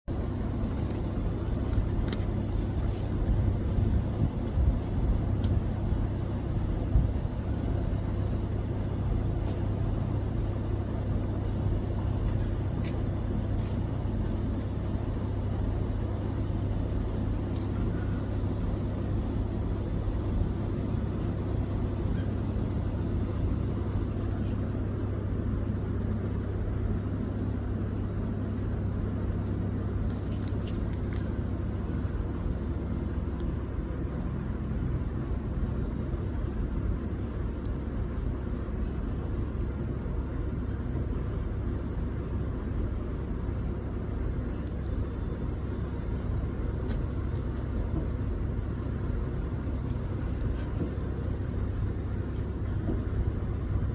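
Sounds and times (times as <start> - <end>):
low rumble with hum: 0.0 - 53.9.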